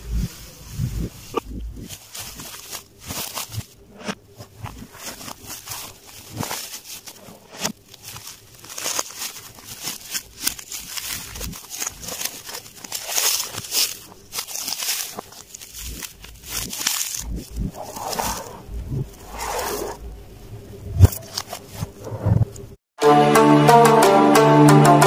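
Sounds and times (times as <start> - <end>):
plastic wrap crinkling: 0.0 - 20.1.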